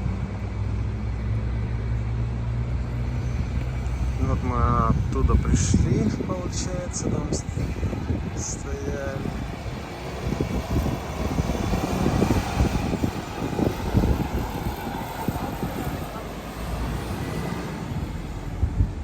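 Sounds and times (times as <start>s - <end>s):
hum of passing traffic: 0.0s - 19.0s
wind buffeting on microphone: 2.3s - 19.0s.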